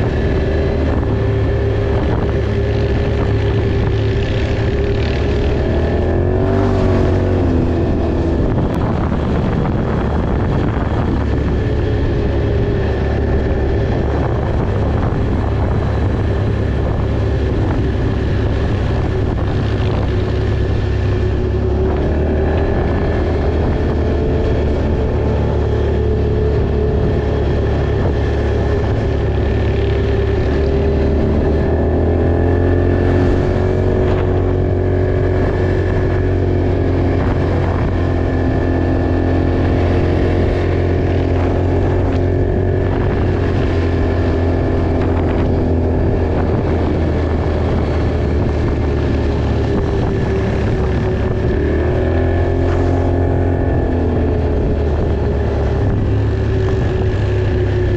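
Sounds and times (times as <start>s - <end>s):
off-road vehicle engine running: 0.0s - 57.9s.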